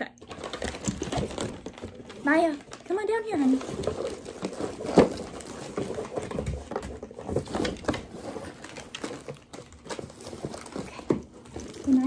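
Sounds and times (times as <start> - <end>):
paws tapping and fur rustling: 0.2 - 12.0.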